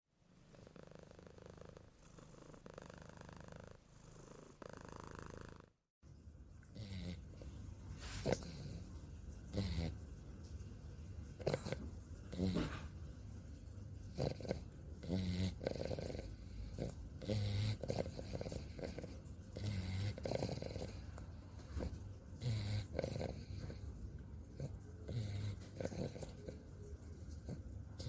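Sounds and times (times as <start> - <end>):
dog snoring with rattling buzz: 0.4 - 5.8, 6.6 - 28.0.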